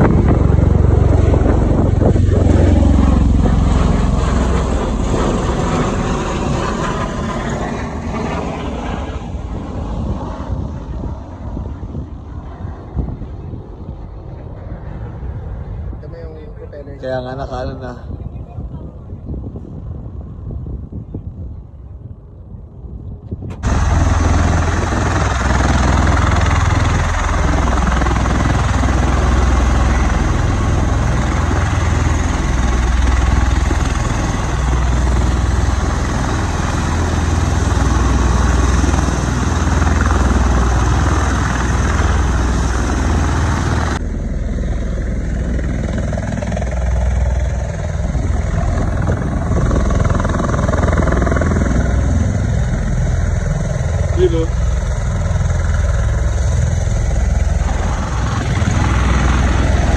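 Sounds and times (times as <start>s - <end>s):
low pulsing rotor throb: 0.0s - 17.8s, 23.6s - 59.9s.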